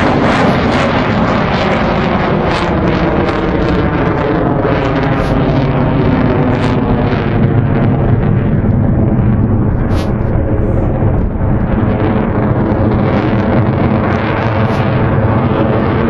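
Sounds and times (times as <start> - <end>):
jet engine roaring overhead: 0.0 - 16.0
wind buffeting microphone: 0.0 - 16.0.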